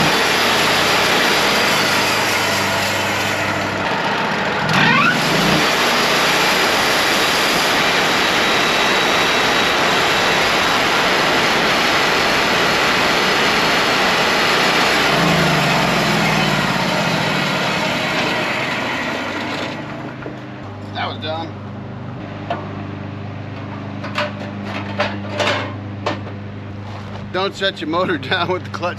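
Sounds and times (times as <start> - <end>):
sawmill running under load: 0.0 - 28.9.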